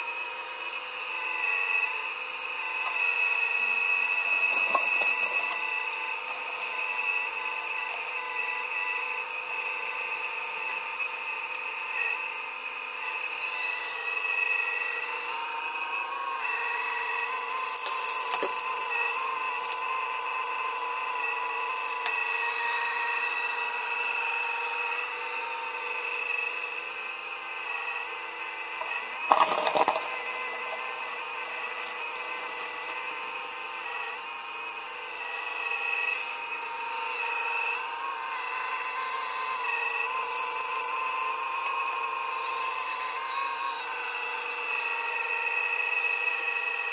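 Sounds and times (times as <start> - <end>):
earthmoving machine whining: 0.0 - 46.9.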